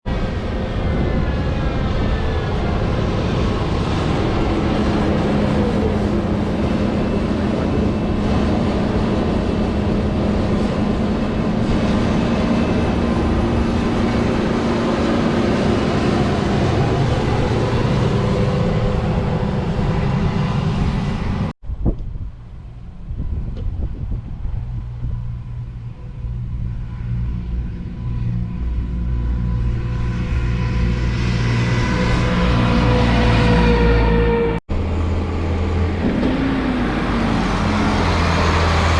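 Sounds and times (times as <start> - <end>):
farm machinery engines droning: 0.1 - 21.5, 22.4 - 38.9.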